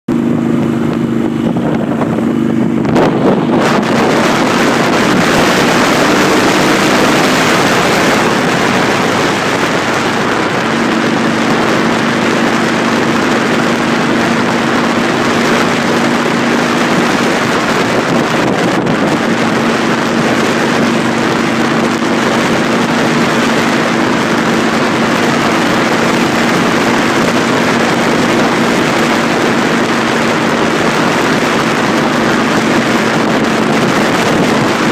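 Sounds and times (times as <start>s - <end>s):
motorcycle engine cruising: 0.1s - 34.9s
wind rush on microphone: 0.1s - 34.9s.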